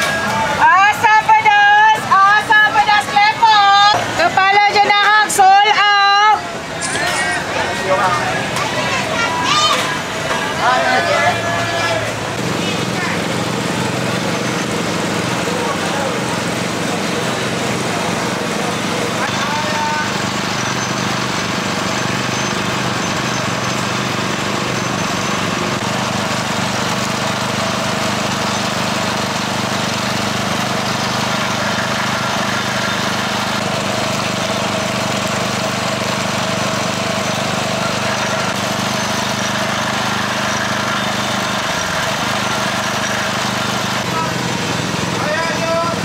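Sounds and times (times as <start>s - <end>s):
crowd chatter: 0.0s - 46.0s
small engine humming: 0.0s - 46.0s.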